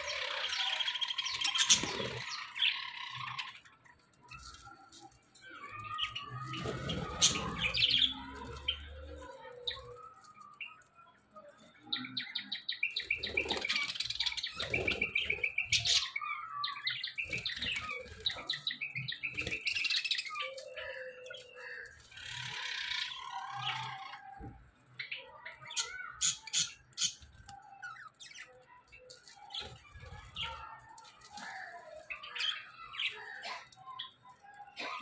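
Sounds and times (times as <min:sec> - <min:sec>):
budgerigars chirping and chattering: 0:00.0 - 0:11.0, 0:11.9 - 0:35.0.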